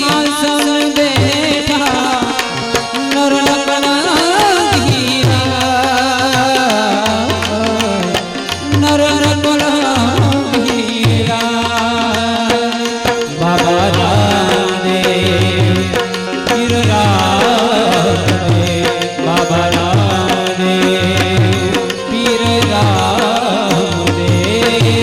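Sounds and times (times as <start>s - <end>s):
harmonium: 0.0s - 25.0s.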